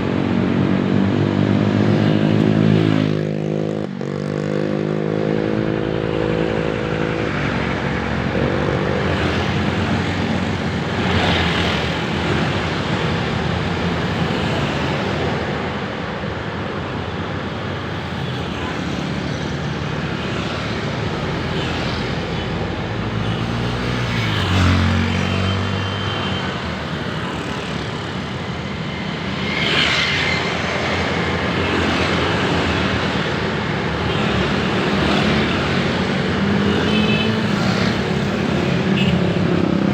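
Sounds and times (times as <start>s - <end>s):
road traffic: 0.0s - 39.9s
vehicles passing: 0.0s - 39.9s.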